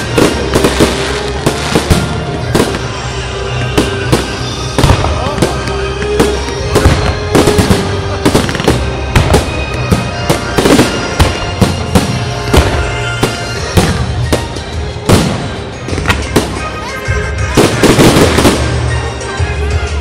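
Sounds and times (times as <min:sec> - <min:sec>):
fireworks shells bursting: 0:00.0 - 0:19.1
fireworks crackle: 0:00.0 - 0:20.0
music playing: 0:00.0 - 0:20.0.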